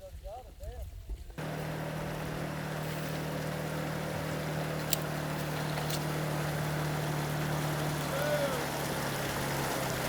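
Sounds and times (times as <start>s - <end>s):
motor humming: 1.4s - 10.0s.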